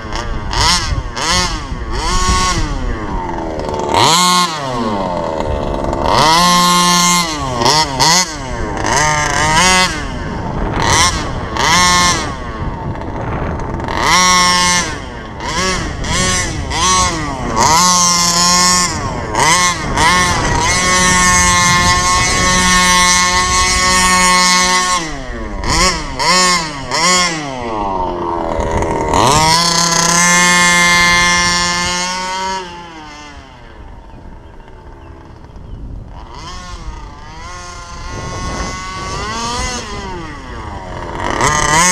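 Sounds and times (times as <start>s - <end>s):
two-stroke engine revving: 0.0s - 41.9s.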